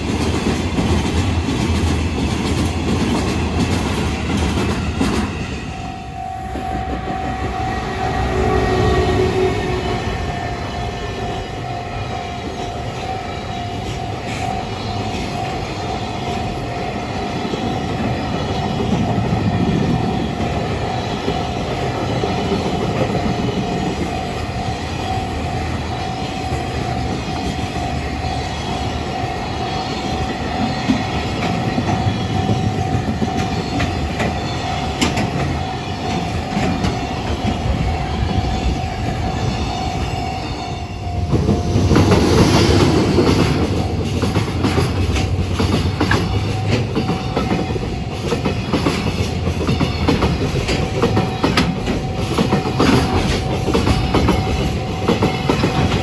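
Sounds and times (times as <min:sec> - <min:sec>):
clickety-clack over rail joints: 0:00.0 - 0:10.4, 0:12.3 - 0:40.6, 0:41.2 - 0:56.0
train wheels rumbling on rail: 0:00.0 - 0:56.0.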